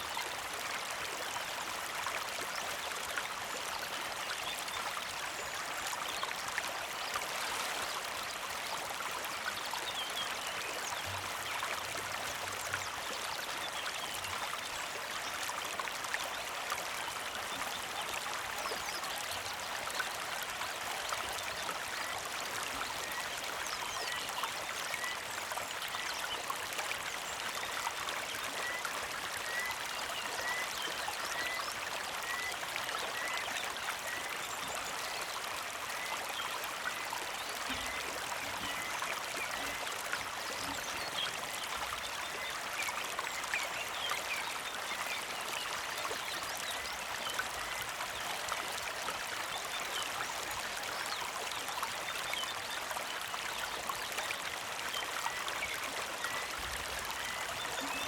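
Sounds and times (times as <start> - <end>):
mountain creek trickling: 0.0 - 58.0.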